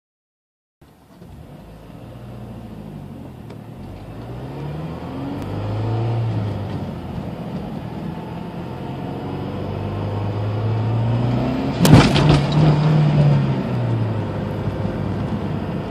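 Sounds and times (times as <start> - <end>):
car engine accelerating: 1.2 - 15.9.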